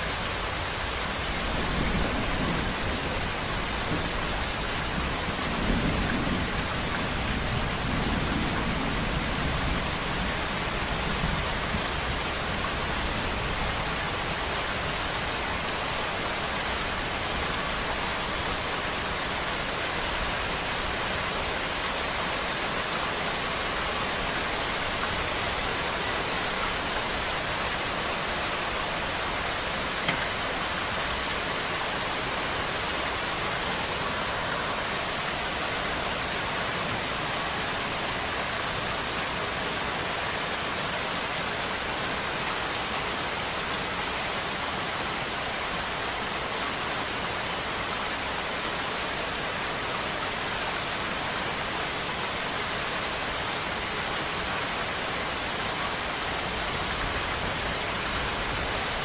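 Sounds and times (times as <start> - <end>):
rain hissing on a surface: 0.0 - 59.0.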